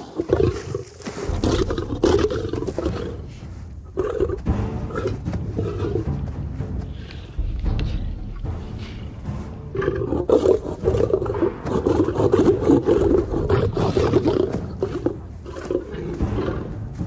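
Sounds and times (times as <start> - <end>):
lions snarling and growling: 0.0 - 6.3, 7.8 - 17.0.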